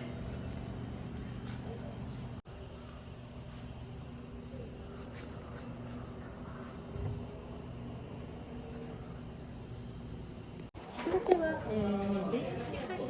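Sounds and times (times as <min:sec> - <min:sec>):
insects chirring: 0:00.0 - 0:10.8.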